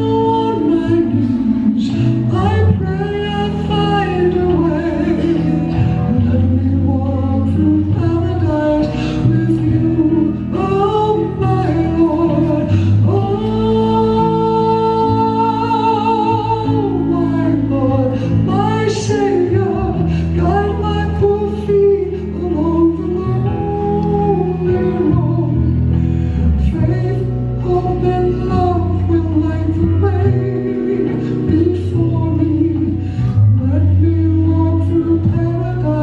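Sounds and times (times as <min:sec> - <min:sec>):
guitar and bass: 0:00.0 - 0:36.0
person singing with vibrato: 0:00.0 - 0:36.0.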